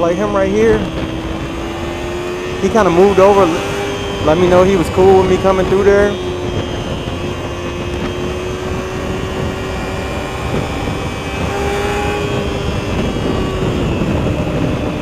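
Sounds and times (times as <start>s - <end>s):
dense rushing noise: 0.0s - 15.0s
motorcycle engine running: 0.0s - 15.0s.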